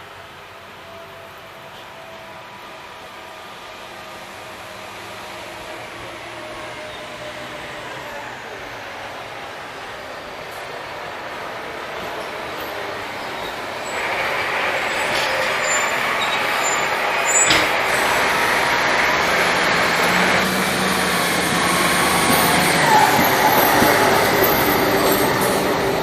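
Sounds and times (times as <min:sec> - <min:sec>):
train passing close by: 0:00.0 - 0:26.0.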